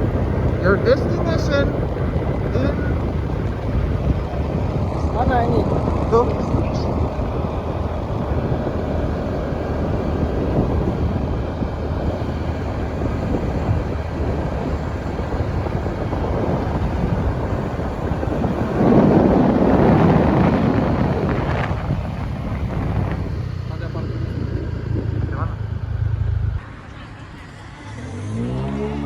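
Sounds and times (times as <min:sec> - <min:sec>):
wind buffeting microphone: 0:00.0 - 0:26.6
motorbike running: 0:00.0 - 0:29.0.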